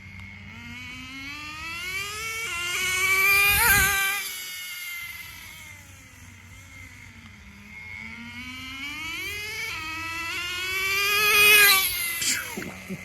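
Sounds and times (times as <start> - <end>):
model car engine whining: 0.0 - 12.9.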